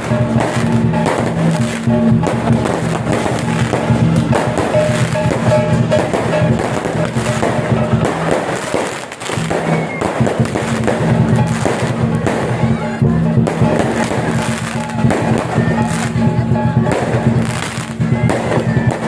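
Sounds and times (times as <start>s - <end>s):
fireworks popping and crackling: 0.0s - 19.0s
loud music: 0.0s - 19.0s.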